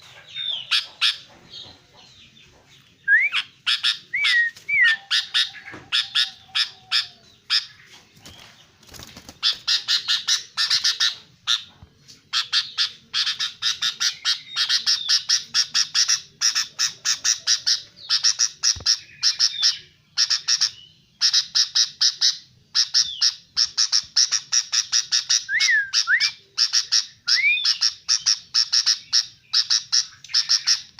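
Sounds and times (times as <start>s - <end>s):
bird chattering calls: 0.0s - 30.9s.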